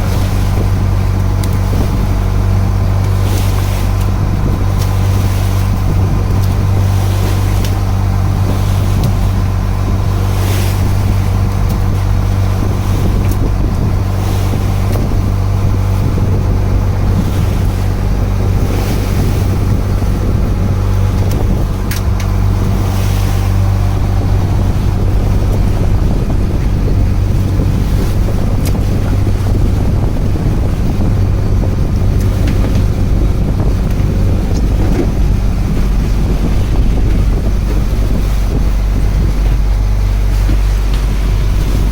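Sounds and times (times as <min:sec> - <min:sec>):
boat engine humming: 0:00.0 - 0:41.9
sea wash: 0:00.0 - 0:41.9
wind buffeting microphone: 0:00.0 - 0:41.9.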